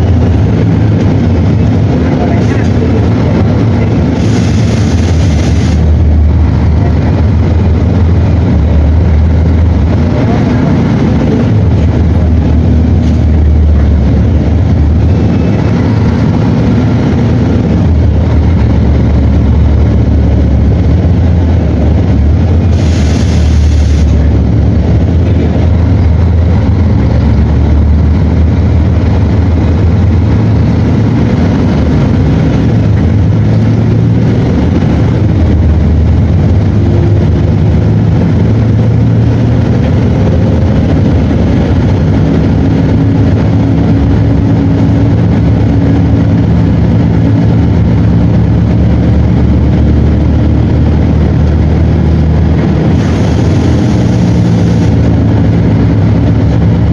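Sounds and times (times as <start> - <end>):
diesel bus engine droning: 0.0 - 56.9.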